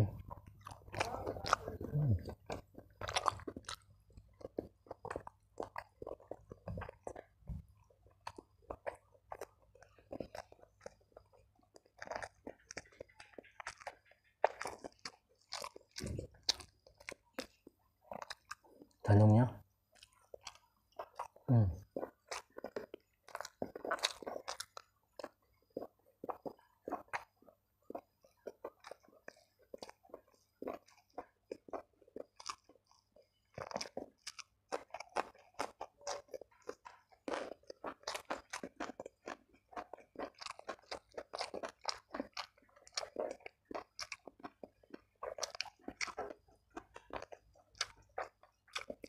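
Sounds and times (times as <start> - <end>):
person chewing with mouth clicks: 0.0 - 49.0.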